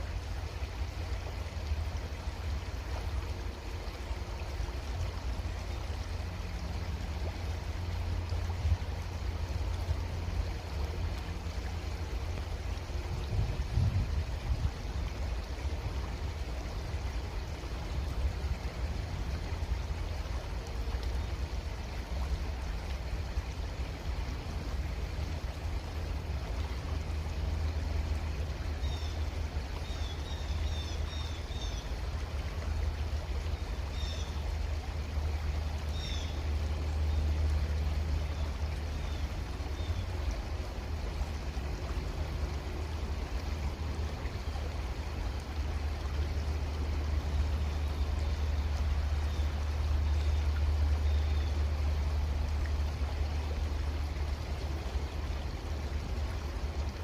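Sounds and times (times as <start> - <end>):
creek water flowing: 0.0 - 57.0.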